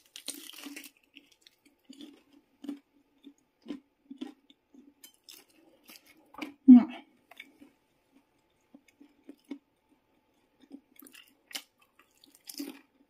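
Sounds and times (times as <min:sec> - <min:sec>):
chewing with soft crunches: 0:00.0 - 0:13.0.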